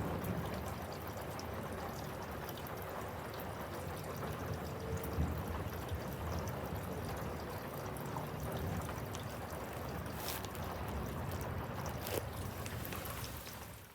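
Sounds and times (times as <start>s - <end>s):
heavy rain: 0.0s - 13.9s
runoff water trickling: 0.0s - 13.9s.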